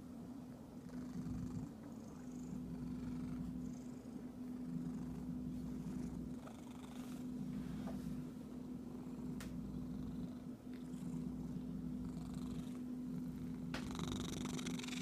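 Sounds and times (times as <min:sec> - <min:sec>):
cat purring: 0:00.6 - 0:15.0.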